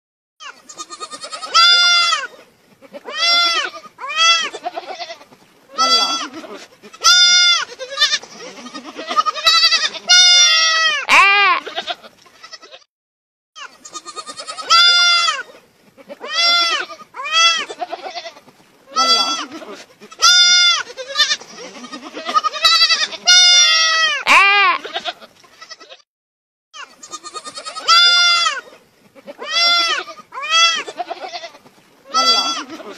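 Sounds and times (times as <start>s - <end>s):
goat kid bleating: 0.4s - 12.8s, 13.6s - 26.0s, 26.8s - 32.9s.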